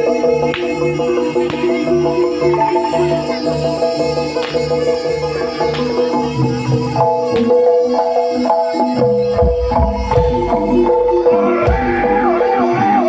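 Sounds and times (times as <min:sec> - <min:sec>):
hand drums playing: 0:00.0 - 0:13.0.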